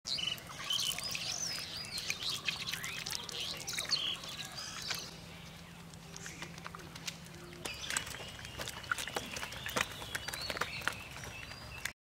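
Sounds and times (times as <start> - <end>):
birds chirping and whistling: 0.1 - 11.9.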